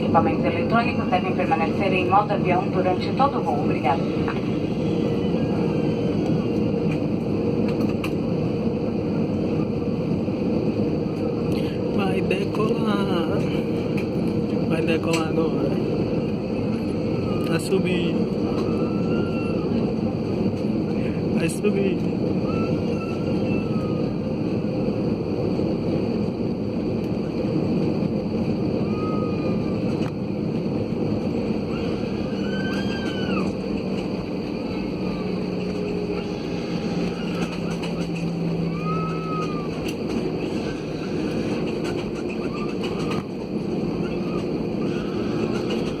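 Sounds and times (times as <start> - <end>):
airliner cabin engine rumble: 0.0 - 46.0.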